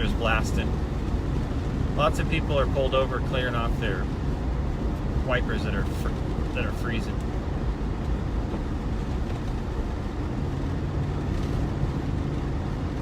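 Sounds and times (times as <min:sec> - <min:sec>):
vehicle driving on snowy road: 0:00.0 - 0:13.0.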